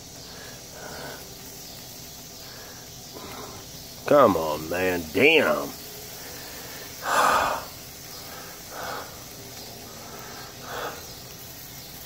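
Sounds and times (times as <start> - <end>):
sausages sizzling on a grill: 0.0 - 12.0.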